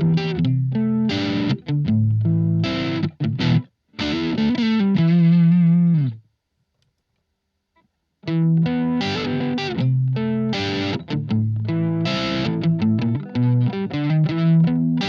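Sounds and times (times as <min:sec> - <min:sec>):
distorted electric guitar chords: 0:00.0 - 0:06.2, 0:08.2 - 0:15.0.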